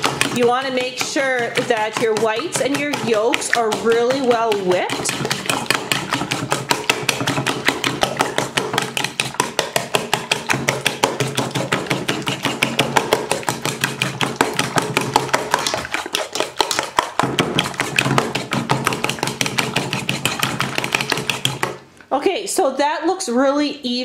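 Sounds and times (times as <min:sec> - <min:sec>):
fork beating eggs in metal bowl: 0:00.0 - 0:22.0.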